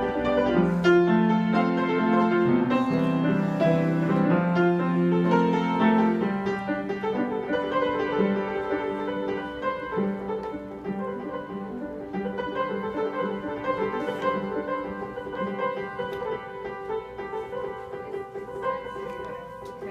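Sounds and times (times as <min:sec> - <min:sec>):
slow piano melody and chords: 0:00.0 - 0:19.9.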